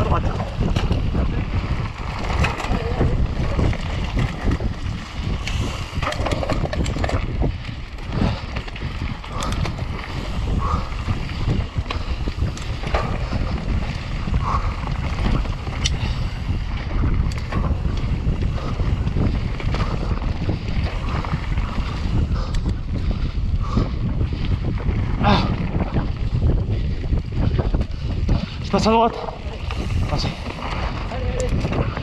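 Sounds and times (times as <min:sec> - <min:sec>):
bike knocks and rattles: 0:00.0 - 0:32.0
wind buffeting microphone: 0:00.0 - 0:32.0.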